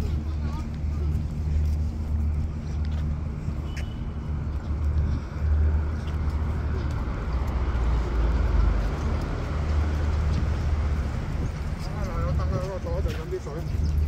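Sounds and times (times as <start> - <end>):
low engine hum: 0.0 - 14.0
traffic noise: 0.0 - 14.0.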